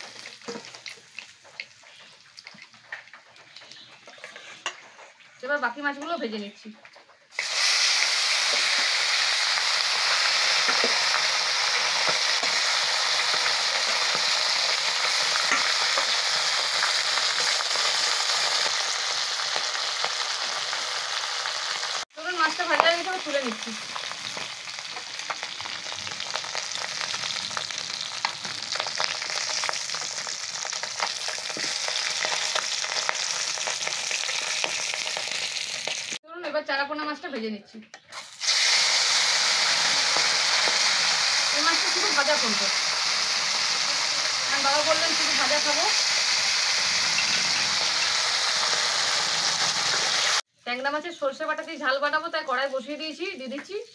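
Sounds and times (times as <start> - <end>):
fish sizzling in oil: 0.0 - 4.3, 7.3 - 36.2, 38.1 - 50.4.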